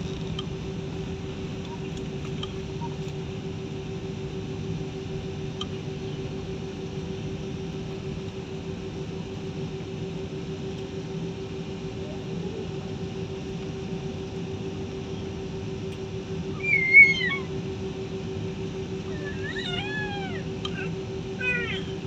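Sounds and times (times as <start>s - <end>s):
airliner cabin hum and rumble: 0.0s - 22.0s.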